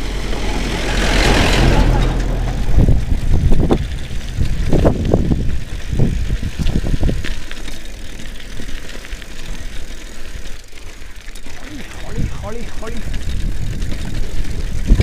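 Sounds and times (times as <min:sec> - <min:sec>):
bike tyres rumbling on gravel: 0:00.0 - 0:15.0
stones knocking and rattling: 0:02.0 - 0:15.0.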